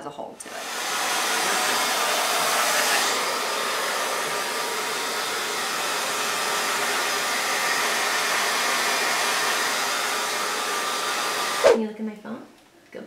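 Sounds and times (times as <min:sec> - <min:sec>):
hair dryer blowing: 0:00.4 - 0:11.8.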